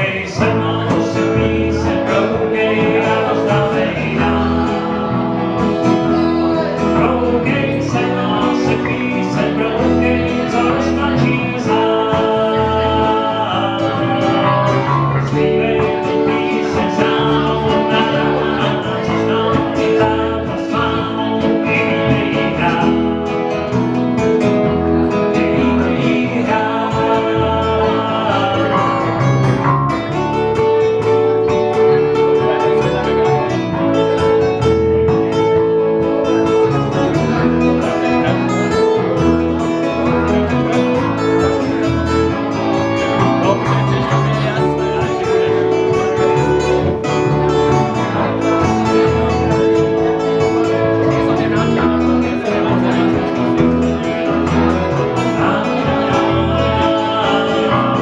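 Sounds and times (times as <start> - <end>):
guitar band playing: 0.0 - 58.0
person singing: 0.0 - 58.0.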